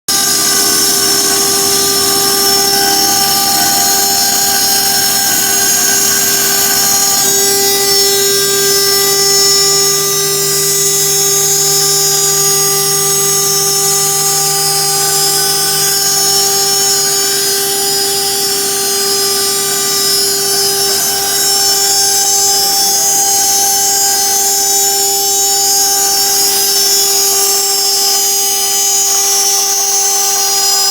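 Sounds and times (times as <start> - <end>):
milling spindle whine: 0.1 - 30.9.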